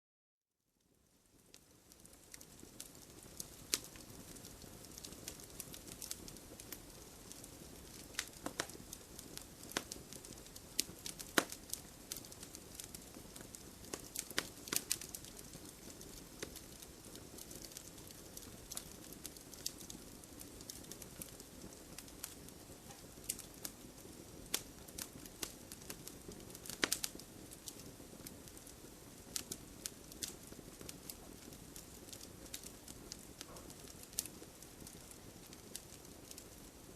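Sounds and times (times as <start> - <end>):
fire crackling and popping: 0.8 - 36.9
fire hissing: 2.3 - 36.6.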